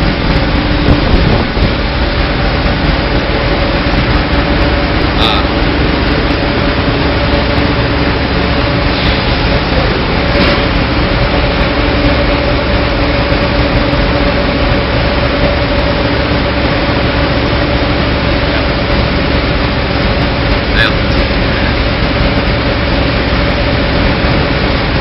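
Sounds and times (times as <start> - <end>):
rotary drum dryer running: 0.0 - 25.0.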